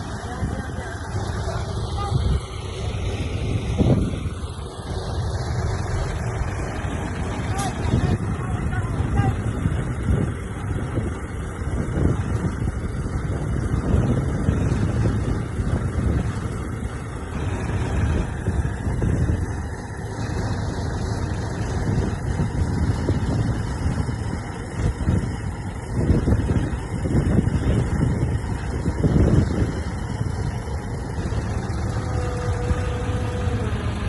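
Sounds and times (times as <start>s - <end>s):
diesel engine of heavy machinery: 0.0s - 34.0s
wind noise on microphone: 0.0s - 34.0s.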